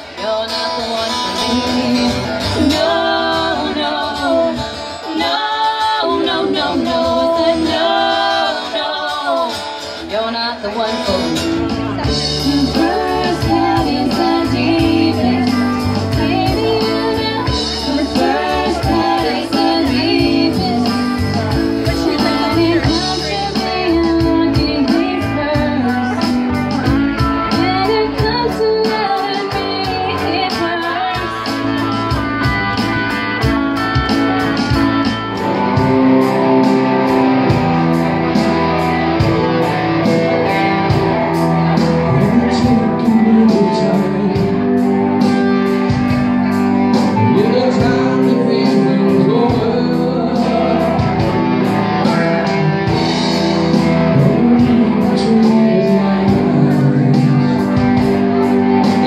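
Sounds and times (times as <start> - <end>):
guitar: 0.0 - 59.0
person singing: 0.0 - 59.0.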